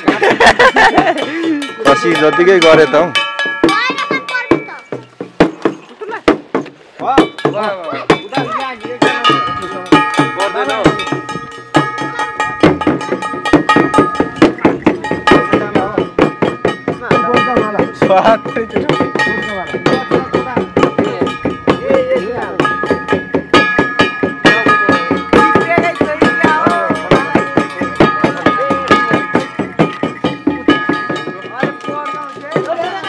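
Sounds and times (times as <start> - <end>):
frame drum strokes: 0.0 - 33.0
metal bells ringing: 0.0 - 33.0.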